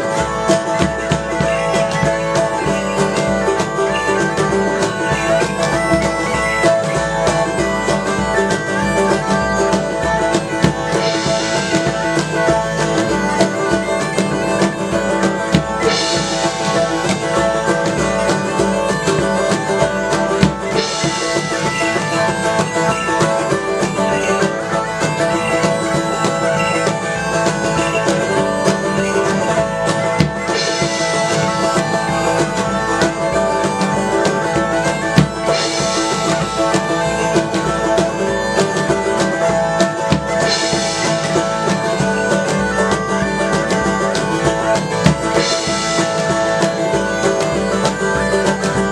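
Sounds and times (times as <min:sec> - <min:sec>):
bagpipes over drone: 0:00.0 - 0:48.9
drums beating: 0:00.0 - 0:48.9.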